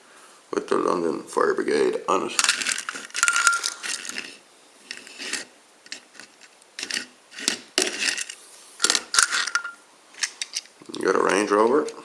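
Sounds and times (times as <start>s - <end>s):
toy models scraping: 2.2s - 12.0s
toy vehicles clicking and knocking: 2.3s - 12.0s.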